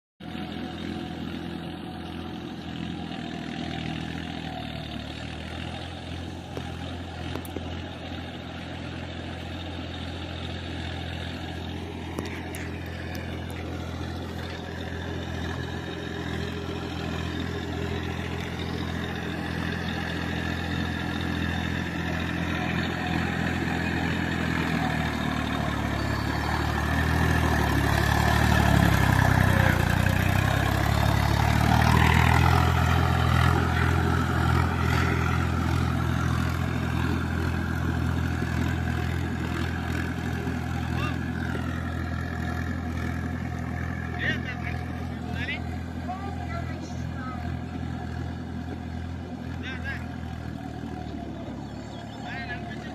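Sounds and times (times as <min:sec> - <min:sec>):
tractor diesel engine running: 0:00.2 - 0:52.9.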